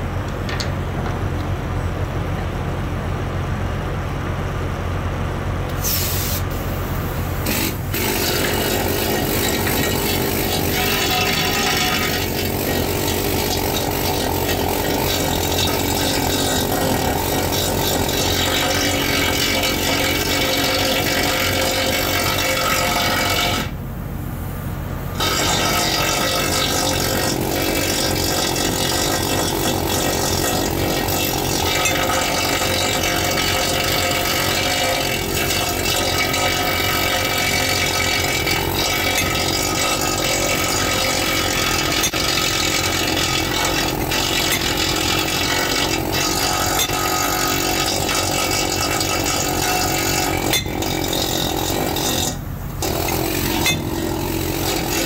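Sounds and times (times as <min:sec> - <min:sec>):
ship machinery droning: 0:00.0 - 0:55.0.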